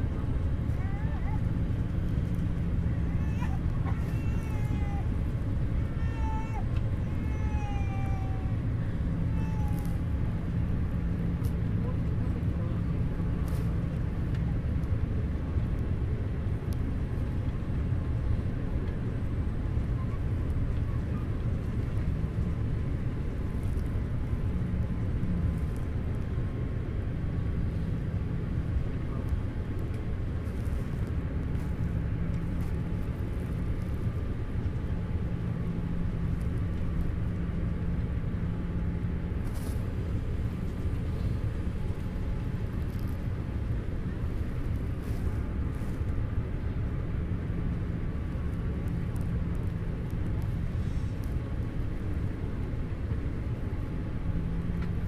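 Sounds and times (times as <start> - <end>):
jet engines droning in cabin: 0.0 - 55.0.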